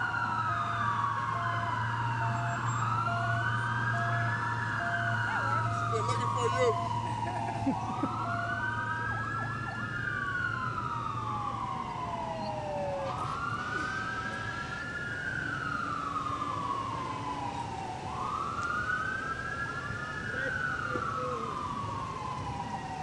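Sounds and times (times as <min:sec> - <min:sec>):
police siren wailing: 0:00.0 - 0:23.0.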